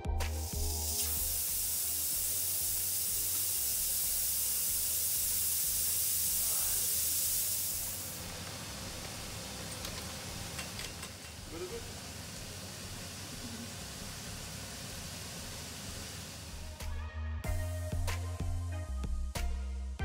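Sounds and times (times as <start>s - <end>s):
pressure cooker hissing steam: 0.3s - 16.8s.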